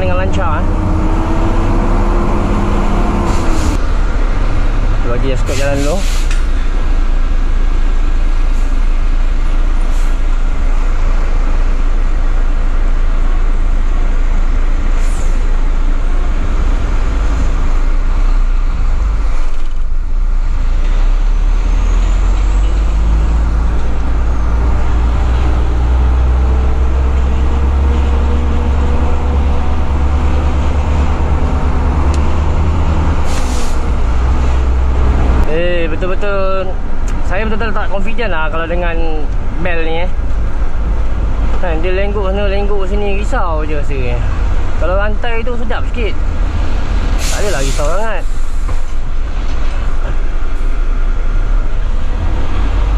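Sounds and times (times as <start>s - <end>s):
road noise: 0.0s - 52.9s
truck diesel engine: 0.0s - 52.9s.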